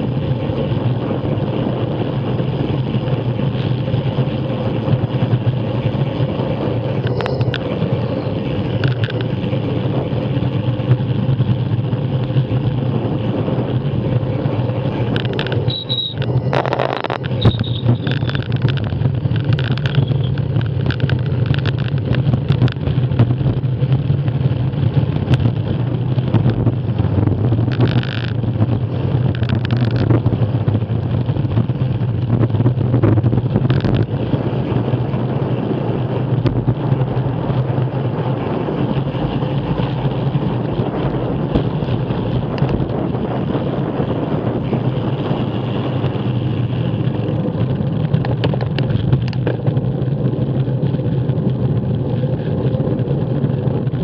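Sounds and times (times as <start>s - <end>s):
bike tyres rolling on tarmac: 0.0s - 54.0s
wind rushing over microphone: 0.0s - 54.0s.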